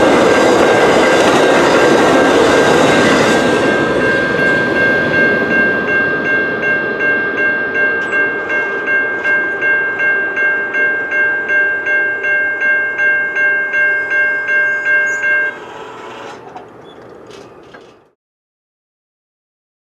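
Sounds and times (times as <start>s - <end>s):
crossing bell ringing: 0.0s - 17.9s
rumble of passing train: 0.0s - 18.2s.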